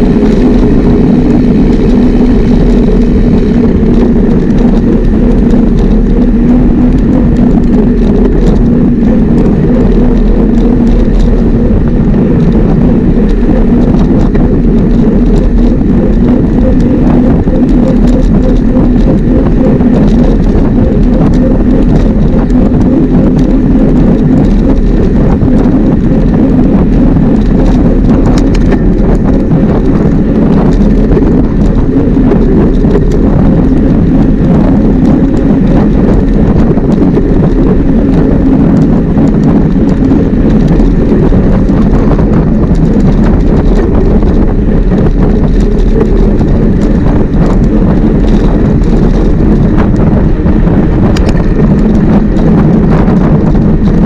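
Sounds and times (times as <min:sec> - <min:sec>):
bike ride rumble: 0:00.0 - 0:54.0
small rattles: 0:00.0 - 0:54.0
wind rushing over camera: 0:00.0 - 0:54.0.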